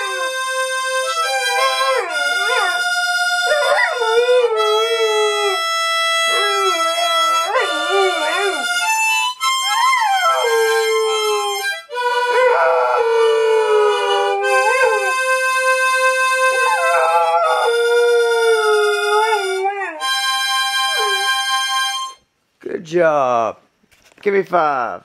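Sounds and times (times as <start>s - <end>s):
dog howling: 0.0s - 15.5s, 16.4s - 21.5s
harmonica notes and chords: 0.0s - 22.3s.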